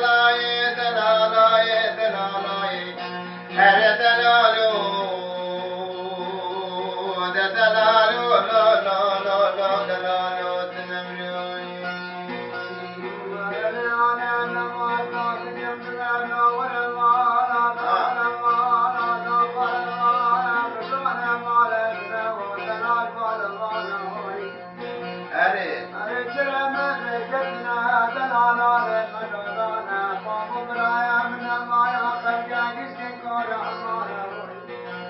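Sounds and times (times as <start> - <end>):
man singing folk song: 0.0 - 35.0
plucked lute strings: 0.0 - 35.0.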